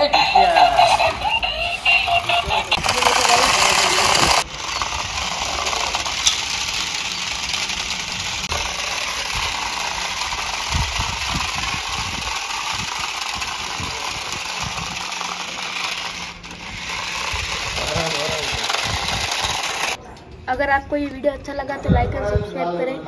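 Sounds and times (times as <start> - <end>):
electric motors and gears whirring: 0.0 - 20.0
plastic wheels rattling: 0.0 - 20.0.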